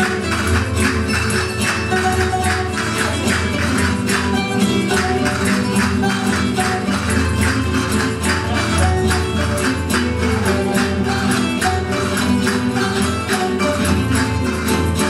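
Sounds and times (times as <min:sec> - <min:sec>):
folk music with sustained tones: 0:00.0 - 0:15.0.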